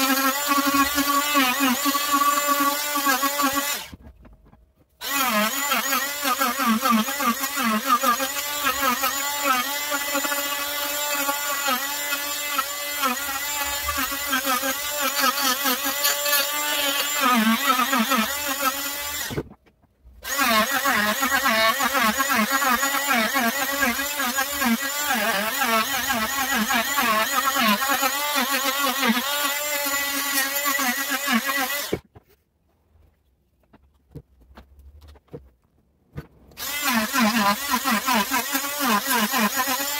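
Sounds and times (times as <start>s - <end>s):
oscillating multi-tool cutting wood: 0.0s - 4.4s, 5.0s - 19.6s, 20.2s - 32.0s, 36.6s - 39.9s.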